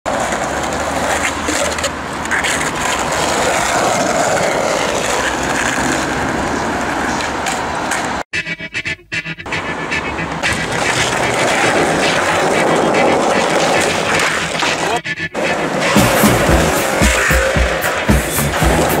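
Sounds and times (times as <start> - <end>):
street traffic: 0.0 - 19.0
skateboard wheels rolling on paving: 0.1 - 8.2, 9.5 - 19.0.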